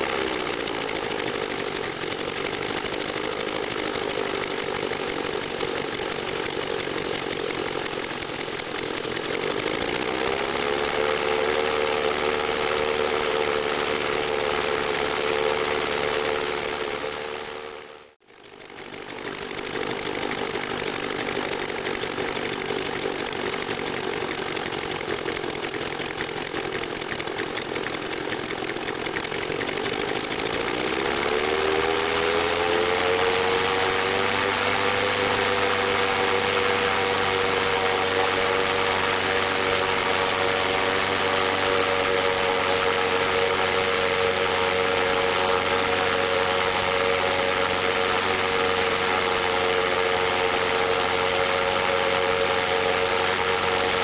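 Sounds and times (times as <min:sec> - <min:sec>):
model radial engine running: 0:00.0 - 0:54.0.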